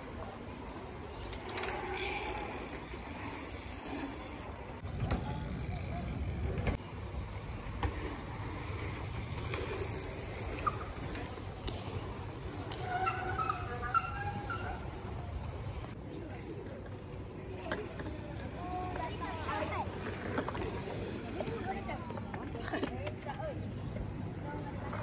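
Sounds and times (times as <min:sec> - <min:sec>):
bicycle tyres rumbling on concrete: 0:00.0 - 0:16.0, 0:17.8 - 0:22.9.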